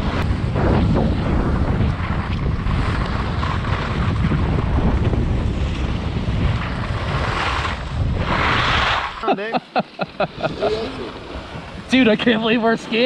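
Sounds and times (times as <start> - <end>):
skis sliding over snow: 0.0 - 9.6, 10.2 - 13.0
wind buffeting microphone: 0.0 - 13.0.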